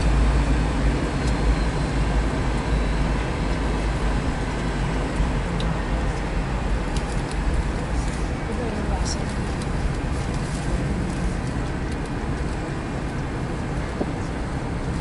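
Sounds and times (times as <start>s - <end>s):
airliner cabin engine roar: 0.0s - 15.0s.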